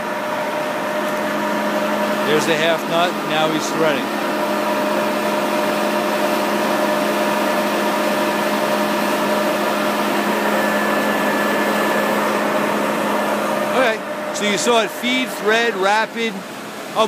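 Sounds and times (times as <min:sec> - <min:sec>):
lathe humming: 0:00.0 - 0:17.0.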